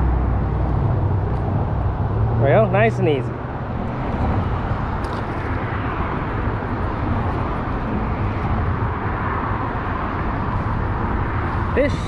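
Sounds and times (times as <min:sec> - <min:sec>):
highway traffic rumble: 0:00.0 - 0:12.0.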